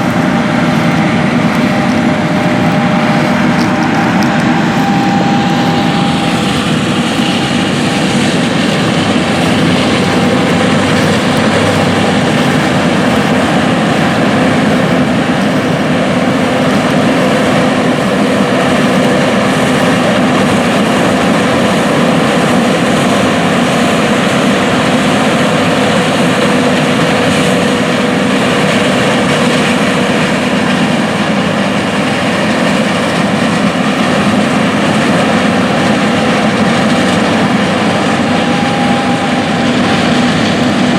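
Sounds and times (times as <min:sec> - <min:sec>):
farm machine diesel engine drone: 0:00.0 - 0:40.9.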